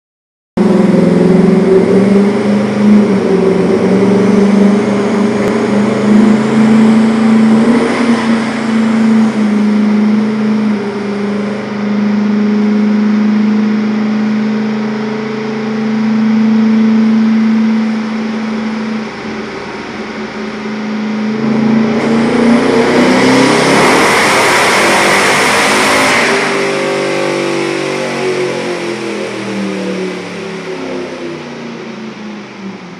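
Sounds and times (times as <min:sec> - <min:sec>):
loud engine on dyno: 0:00.6 - 0:32.9.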